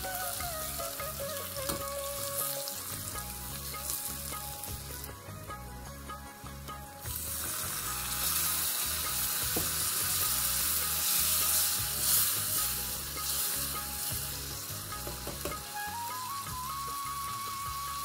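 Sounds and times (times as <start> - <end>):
onion mixture sizzling in saucepan: 0.0 - 18.0.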